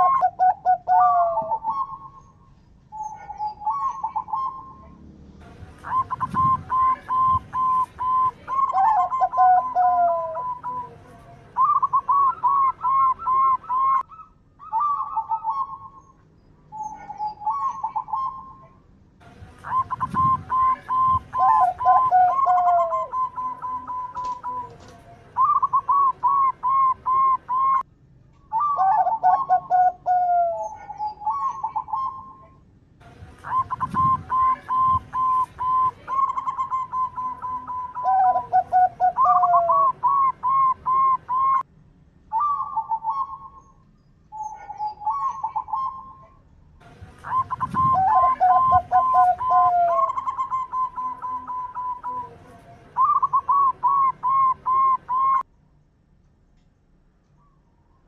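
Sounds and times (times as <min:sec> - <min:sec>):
dove cooing: 0:00.0 - 0:05.0, 0:05.8 - 0:11.0, 0:11.6 - 0:16.1, 0:16.7 - 0:18.6, 0:19.6 - 0:27.8, 0:28.5 - 0:32.6, 0:33.4 - 0:41.6, 0:42.3 - 0:43.6, 0:44.3 - 0:46.4, 0:47.2 - 0:55.4.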